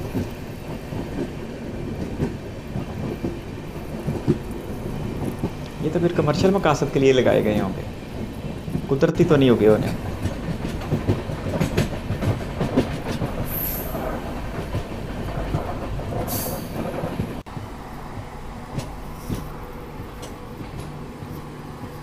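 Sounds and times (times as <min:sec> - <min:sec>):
train low rumble: 0:00.0 - 0:22.0
train wheels clicking over rail joints: 0:00.0 - 0:22.0.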